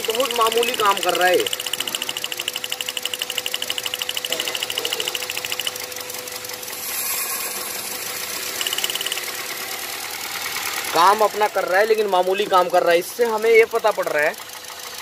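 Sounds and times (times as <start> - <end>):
car engine idling with misfire: 0.0 - 15.0
rapid even ticking: 0.0 - 15.0.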